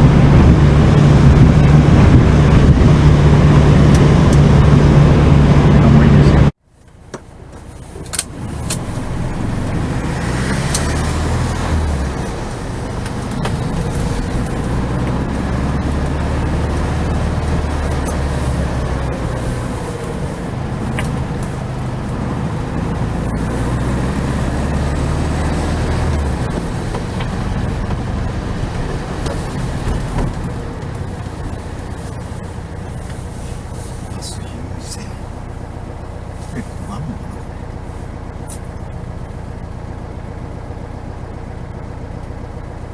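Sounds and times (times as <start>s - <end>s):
vehicle engine drone: 0.0s - 42.9s.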